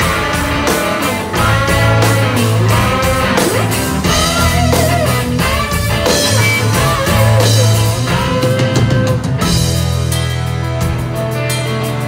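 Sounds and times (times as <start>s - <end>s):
lead guitar bending notes: 0.0s - 12.0s
live rock band playing: 0.0s - 12.0s.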